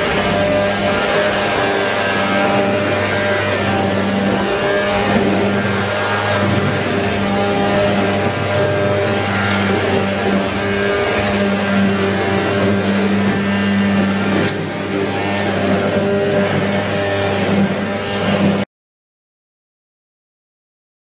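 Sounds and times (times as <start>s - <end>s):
vacuum cleaner running: 0.0s - 18.7s.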